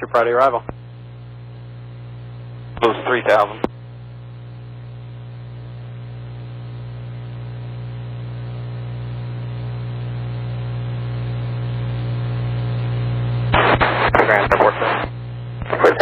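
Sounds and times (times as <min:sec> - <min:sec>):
radio electrical hum with hiss: 0:00.0 - 0:16.0.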